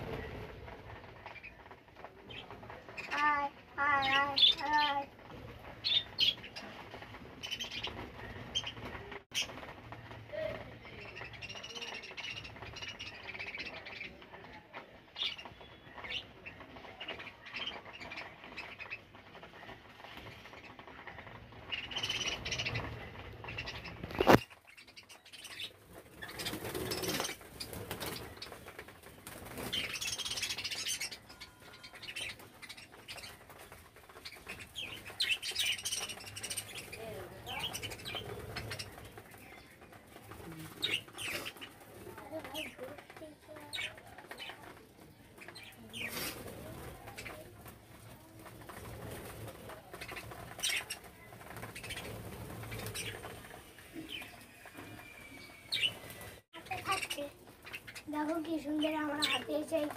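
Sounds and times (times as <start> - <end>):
wings flapping: 0.0 - 59.9.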